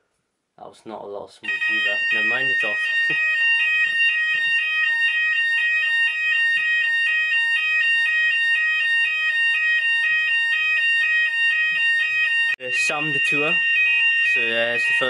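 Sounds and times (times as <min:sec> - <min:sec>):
alarm high steady tone: 0:01.4 - 0:15.0
alarm two-tone warble: 0:01.4 - 0:15.0.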